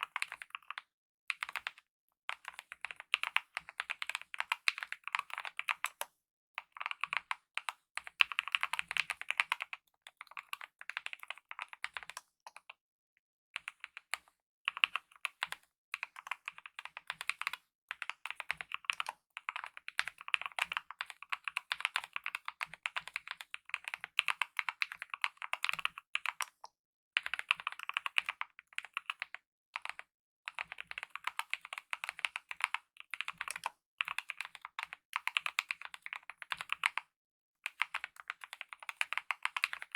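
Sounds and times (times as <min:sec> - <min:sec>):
typing on mechanical keyboard: 0:00.0 - 0:12.8, 0:13.6 - 0:39.9.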